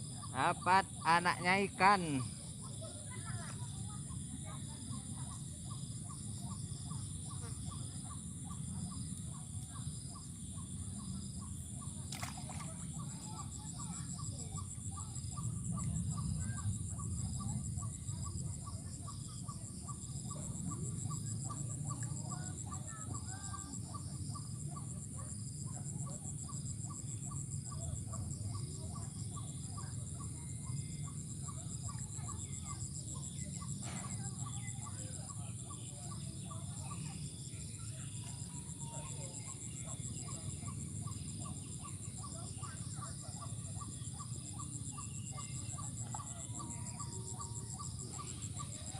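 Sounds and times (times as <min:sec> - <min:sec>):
pulsing insect chirp: 0:00.0 - 0:48.9.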